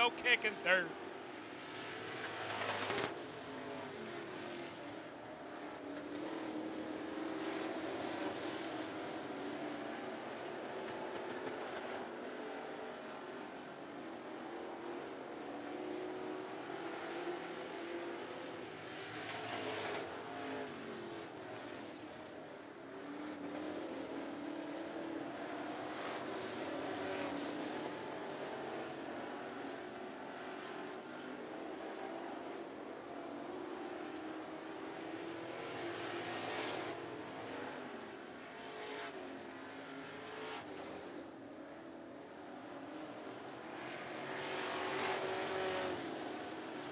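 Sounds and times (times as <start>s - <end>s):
race car engines running hard: 0.0s - 46.9s.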